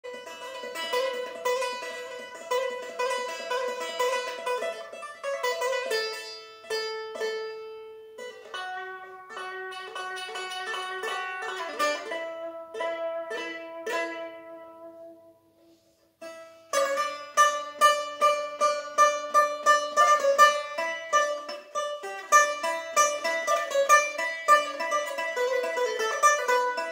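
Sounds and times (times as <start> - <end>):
plucked lute: 0.0 - 26.9.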